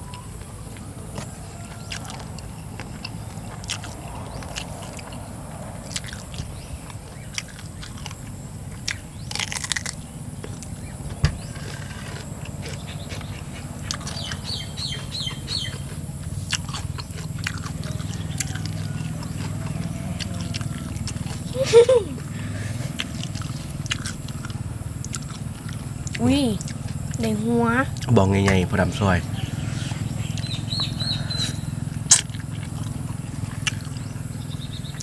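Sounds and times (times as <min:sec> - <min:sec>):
chewing clicks and lip-smacks: 0:00.0 - 0:21.6, 0:22.9 - 0:27.3, 0:30.2 - 0:35.0
steady low hum: 0:00.0 - 0:35.0.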